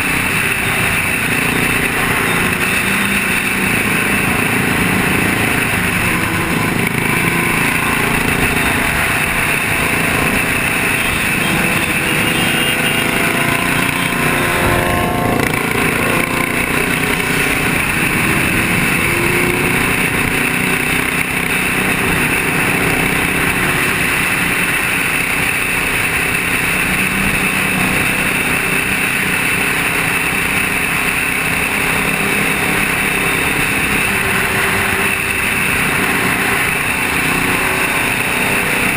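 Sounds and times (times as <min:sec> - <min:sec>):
road noise: 0:00.0 - 0:38.9
vehicle engine running: 0:00.0 - 0:38.9.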